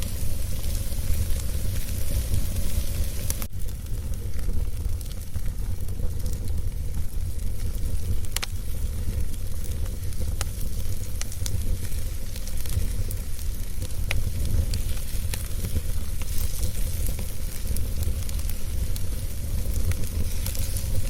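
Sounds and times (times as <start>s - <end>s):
fire hissing: 0.0s - 21.0s
fire pops and snaps: 0.0s - 21.0s
low fire rumble: 0.0s - 21.0s.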